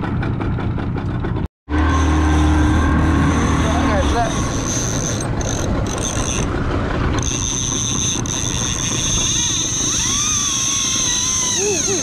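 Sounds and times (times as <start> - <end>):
boat engine running: 0.0 - 12.0
wind: 0.0 - 12.0.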